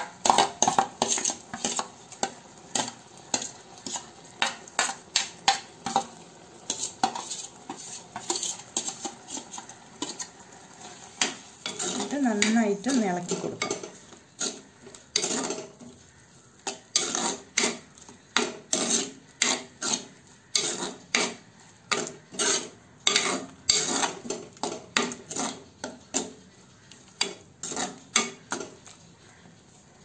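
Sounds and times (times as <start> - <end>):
spoon scraping in clay pot: 0.0 - 29.4.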